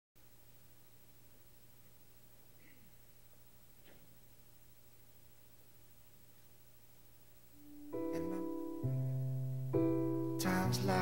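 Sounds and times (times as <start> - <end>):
faint hum and hiss: 0.2 - 11.0.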